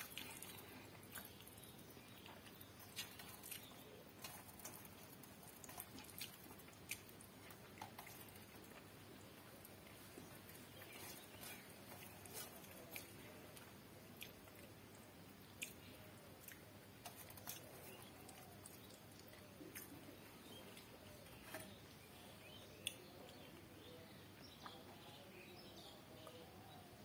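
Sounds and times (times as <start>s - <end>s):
quiet chewing: 0.0s - 27.0s.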